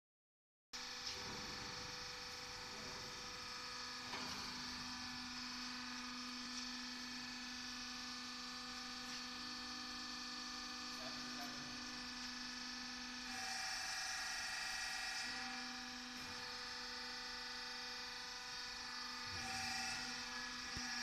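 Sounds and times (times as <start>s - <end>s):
machinery hum: 0.8s - 21.0s.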